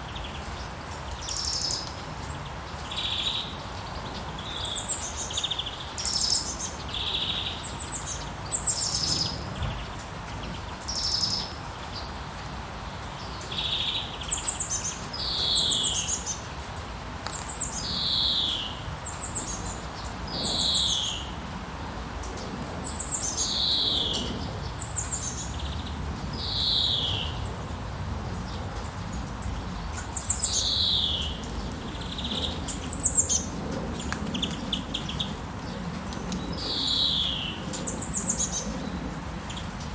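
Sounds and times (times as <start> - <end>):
songbird singing: 0.0 - 21.4, 22.8 - 39.9
gentle rain: 0.0 - 39.9.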